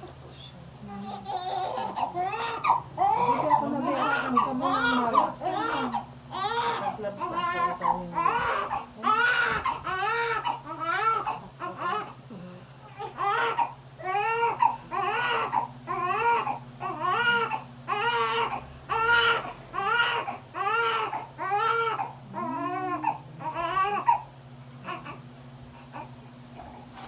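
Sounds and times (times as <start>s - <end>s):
steady low hum: 0.0s - 27.0s
newborn baby crying: 1.0s - 12.2s, 12.8s - 25.2s.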